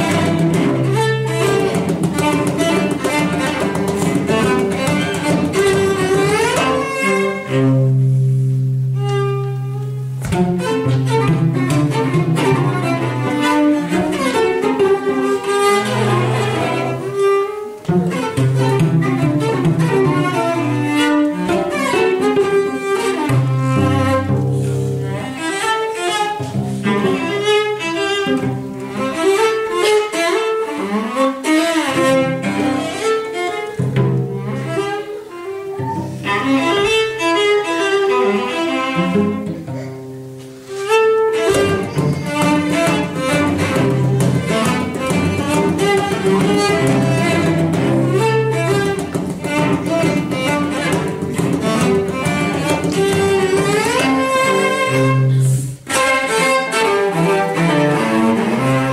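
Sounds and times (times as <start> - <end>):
cello ensemble playing: 0.0 - 58.9.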